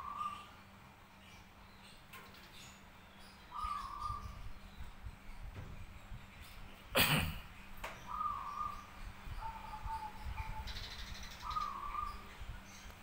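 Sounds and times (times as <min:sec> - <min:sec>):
birds whistling: 0:00.0 - 0:06.9, 0:07.6 - 0:13.0
buzzy bird chirp: 0:00.0 - 0:13.0.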